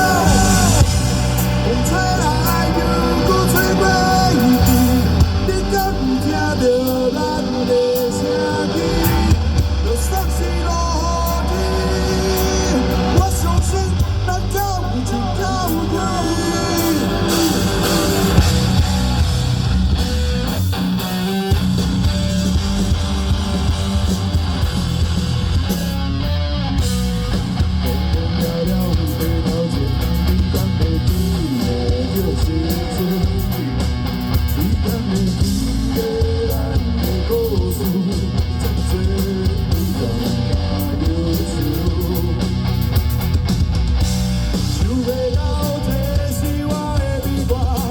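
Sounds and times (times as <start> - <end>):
electric guitar lines: 0.0 - 47.9
live rock band playing: 0.0 - 47.9.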